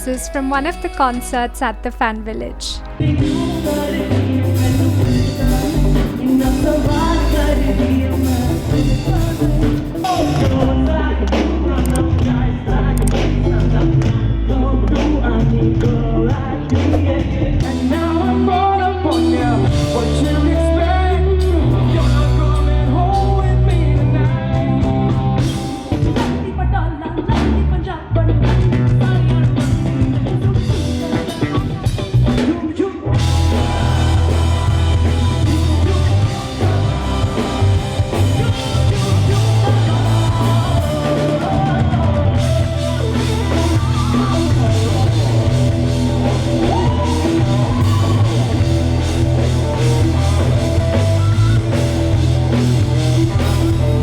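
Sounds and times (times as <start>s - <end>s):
drum kit: 0.0s - 26.6s, 27.3s - 54.0s
bass guitar: 0.0s - 54.0s
electric guitar: 0.0s - 54.0s
person singing: 0.0s - 54.0s.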